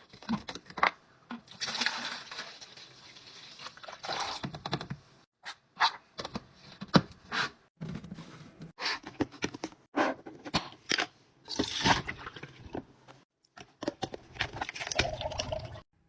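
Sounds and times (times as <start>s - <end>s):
kitchen items clicking and scraping: 0.0s - 15.8s.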